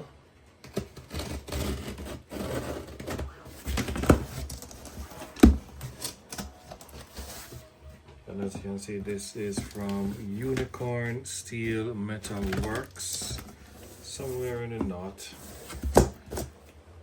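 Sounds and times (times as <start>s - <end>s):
cardboard box rustling and scraping: 0.6s - 16.6s.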